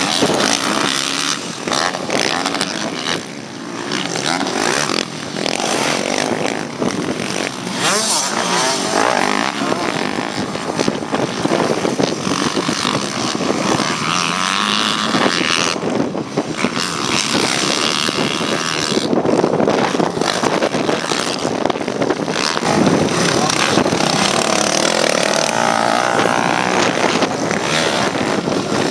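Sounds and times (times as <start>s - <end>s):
motocross bike engines revving: 0.0s - 28.9s.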